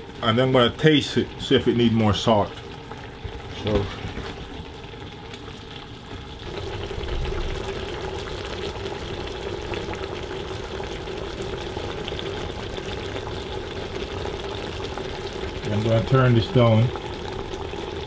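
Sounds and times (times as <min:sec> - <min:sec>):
stew bubbling and sizzling: 0:00.0 - 0:18.0.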